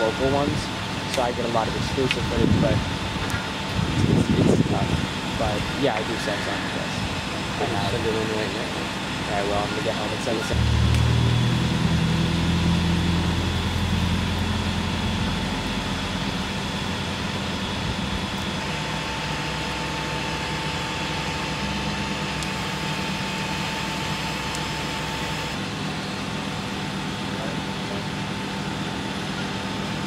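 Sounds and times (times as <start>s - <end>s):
truck engine idling: 0.0s - 30.0s
thin high whine: 4.2s - 30.0s.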